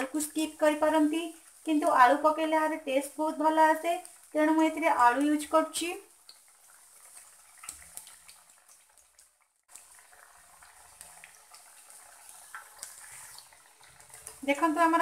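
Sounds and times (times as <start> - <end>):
deep-frying in hot oil: 0.0 - 15.0.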